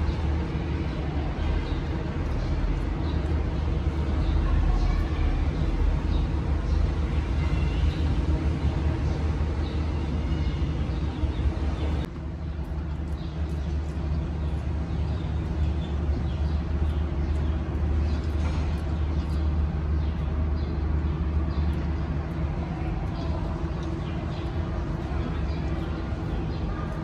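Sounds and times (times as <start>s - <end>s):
engine rumble: 0.0s - 27.0s.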